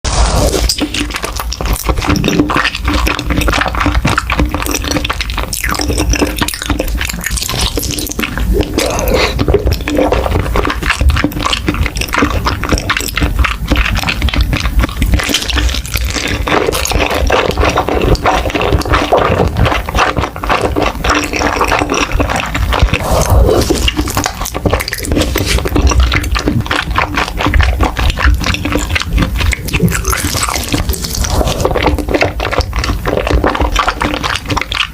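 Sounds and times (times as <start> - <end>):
wet sticky chewing and mouth smacks: 0.2 - 34.9.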